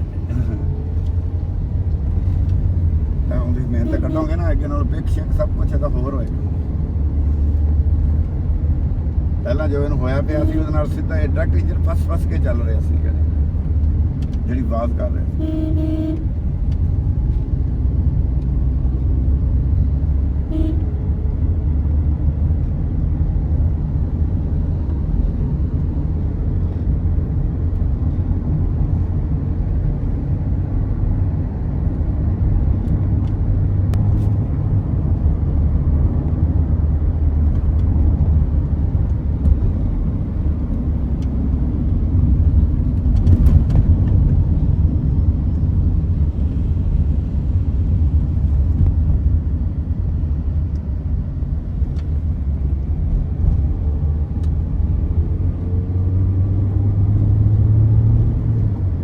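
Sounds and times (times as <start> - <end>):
car engine low rumble: 0.0 - 59.0.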